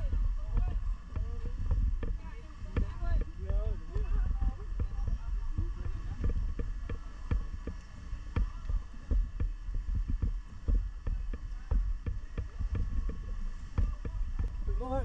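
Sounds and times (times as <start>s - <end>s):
irregular knocks and bumps: 0.0s - 15.0s
steady low rumble: 0.0s - 15.0s.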